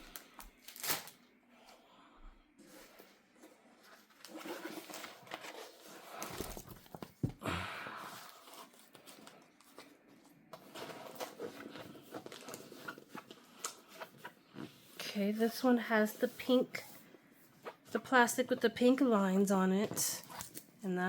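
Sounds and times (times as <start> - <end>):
plastic packaging rustling: 0.0 - 1.2, 2.8 - 7.4, 8.2 - 20.7.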